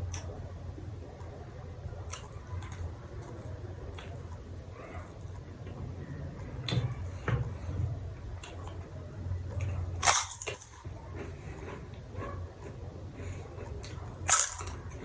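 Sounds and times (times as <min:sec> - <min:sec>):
crunchy clicks: 0:00.0 - 0:15.0.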